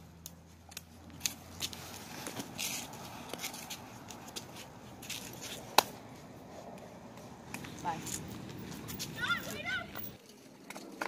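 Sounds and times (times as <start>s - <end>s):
footsteps on concrete: 0.7s - 11.0s
clothes and backpacks rustling: 0.9s - 11.0s.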